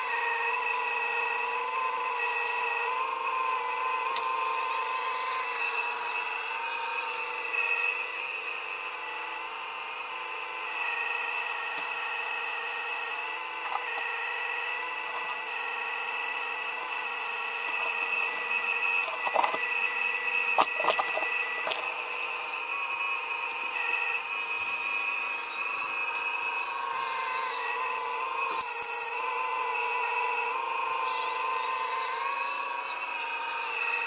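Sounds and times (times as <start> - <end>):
digging machine whining: 0.0 - 34.0.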